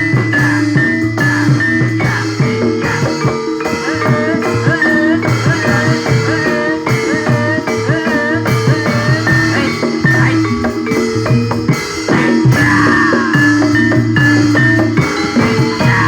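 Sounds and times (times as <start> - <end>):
drum strokes: 0.0 - 16.0
wavering melody line: 0.0 - 16.0.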